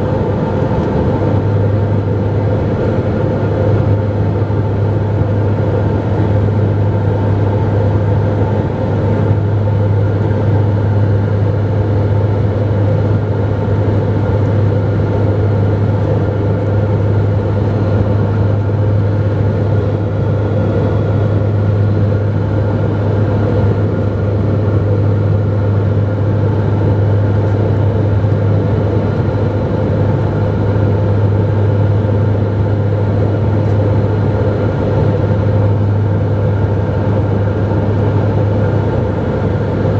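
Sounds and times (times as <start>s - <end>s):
propeller airliner engines droning: 0.0s - 39.9s.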